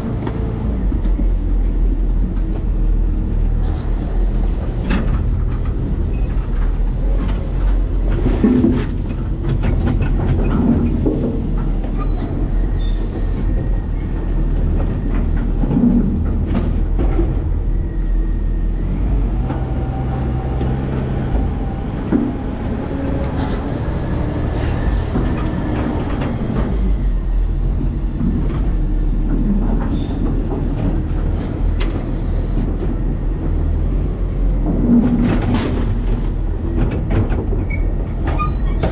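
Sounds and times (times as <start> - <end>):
garbage truck rumbling: 0.0 - 38.9.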